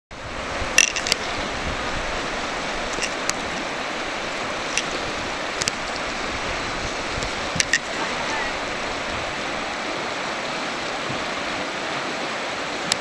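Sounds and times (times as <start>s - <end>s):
river rapids rushing: 0.1s - 13.0s.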